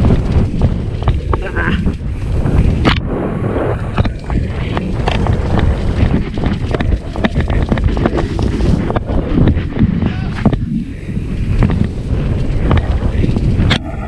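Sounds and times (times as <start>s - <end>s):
knocks and rattles on rough trail: 0.0s - 14.0s
wind buffeting microphone: 0.0s - 14.0s.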